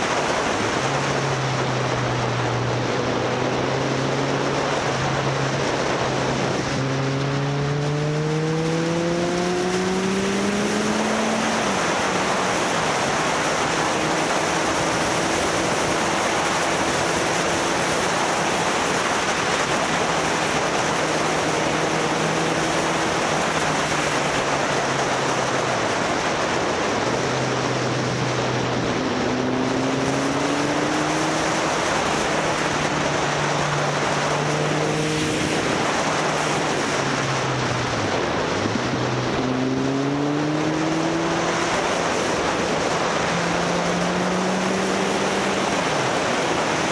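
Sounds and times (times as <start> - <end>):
wind rushing on microphone: 0.0 - 46.9.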